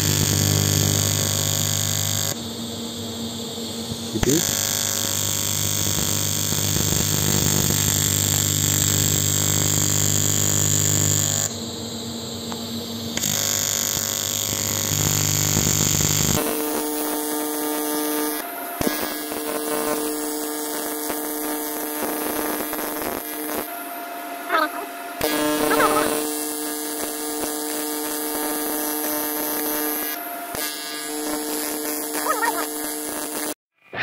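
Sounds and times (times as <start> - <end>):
welding arc buzzing: 0.0 - 2.5, 4.1 - 11.6, 13.2 - 23.9, 24.5 - 33.6.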